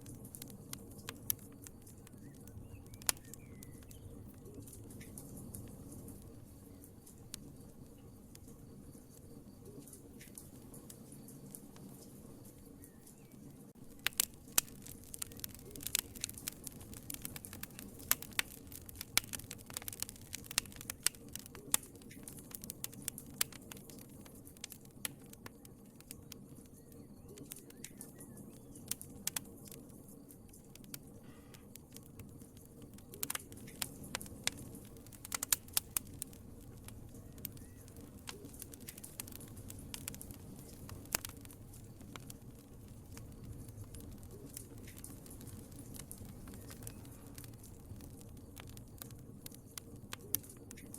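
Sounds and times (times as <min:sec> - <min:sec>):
low rumble of burning: 0:00.0 - 0:50.9
wood fire crackling and popping: 0:00.0 - 0:50.9.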